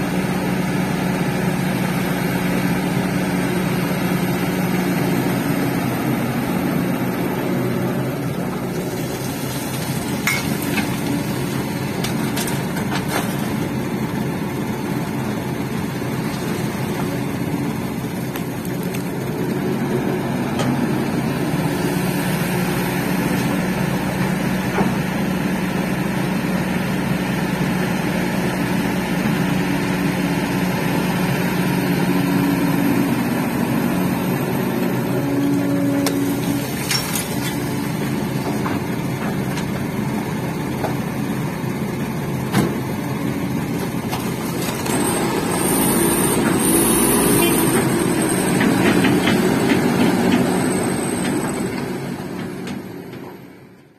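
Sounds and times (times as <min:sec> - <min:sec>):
diesel engines running: 0:00.0 - 0:53.9
gravel loaded into truck: 0:02.2 - 0:27.5, 0:29.9 - 0:53.3.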